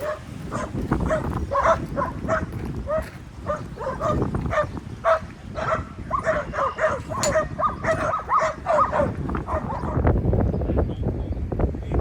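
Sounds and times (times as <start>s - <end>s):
dogs barking and yipping: 0.0s - 10.2s.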